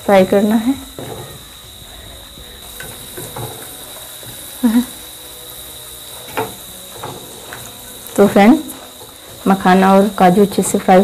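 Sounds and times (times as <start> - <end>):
food frying in hot oil: 0.0 - 11.0.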